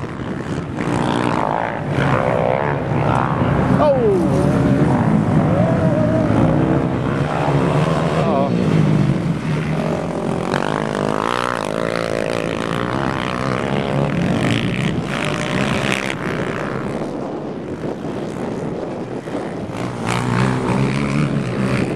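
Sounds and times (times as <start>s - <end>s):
quad engines revving: 0.0s - 21.9s.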